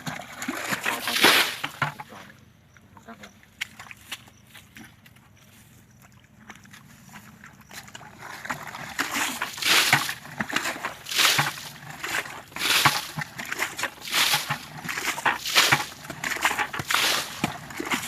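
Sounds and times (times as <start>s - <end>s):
water sloshing and splashing: 0.0s - 2.5s, 3.3s - 18.0s.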